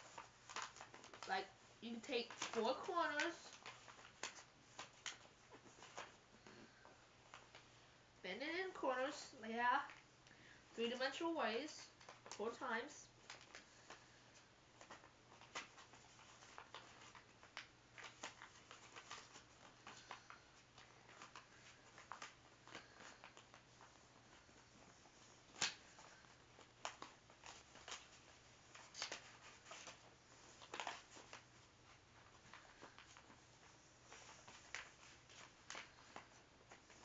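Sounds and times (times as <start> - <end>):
paper rustling and crinkling: 0.0 - 7.8, 11.8 - 37.0.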